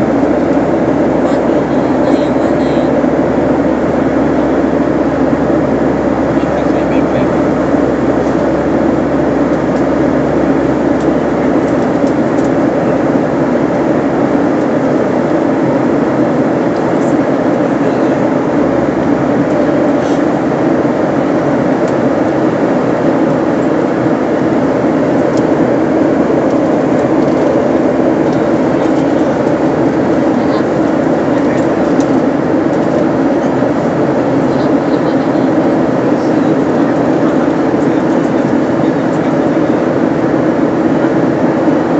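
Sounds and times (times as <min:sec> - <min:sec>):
airplane cabin engine hum: 0:00.0 - 0:41.9.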